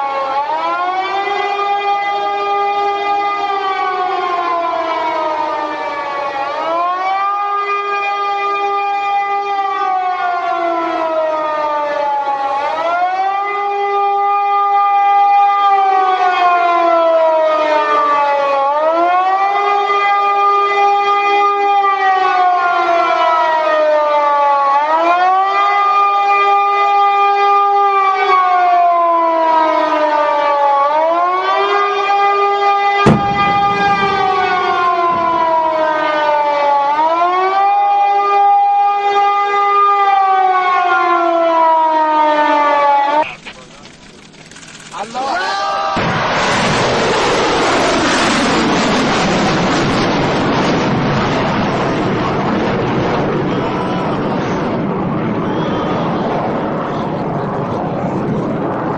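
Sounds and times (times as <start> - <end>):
air-raid siren wailing: 0.0 - 43.4, 45.0 - 58.9.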